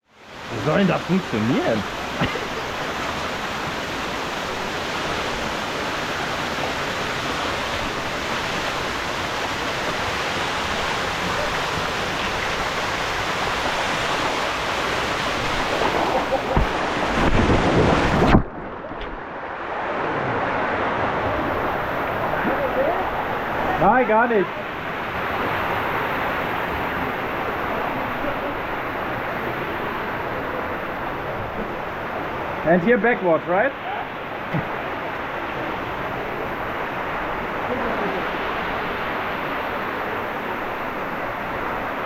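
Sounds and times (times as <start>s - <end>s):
rushing water: 0.0s - 42.0s.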